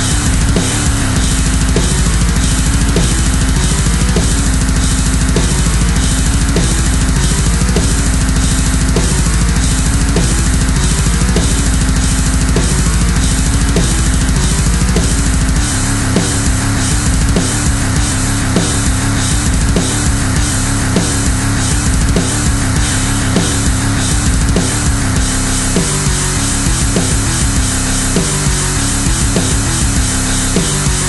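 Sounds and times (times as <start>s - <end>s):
distorted guitars: 0.0s - 31.0s
heavy metal music: 0.0s - 31.0s
pounding drums: 0.0s - 31.0s.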